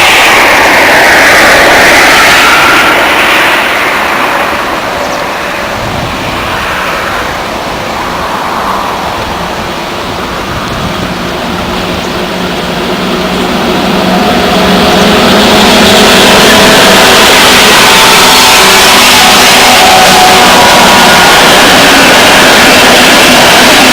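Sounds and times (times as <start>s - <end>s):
train motors humming: 0.0s - 23.9s
train rushing past: 0.0s - 23.9s.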